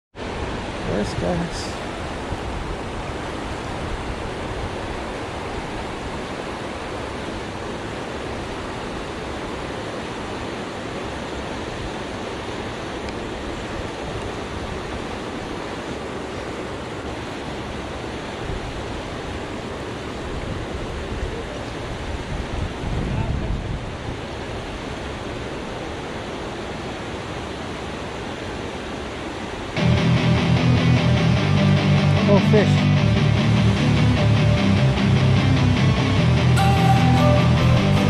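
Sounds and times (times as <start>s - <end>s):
river water rushing: 0.2s - 38.0s.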